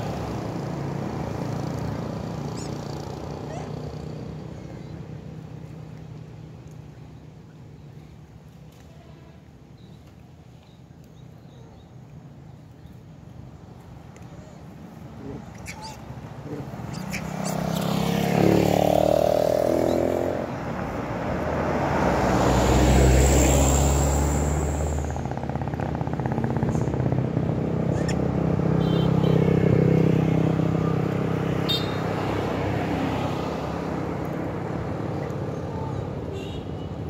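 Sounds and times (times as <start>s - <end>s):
vehicles passing on road: 0.0s - 37.0s.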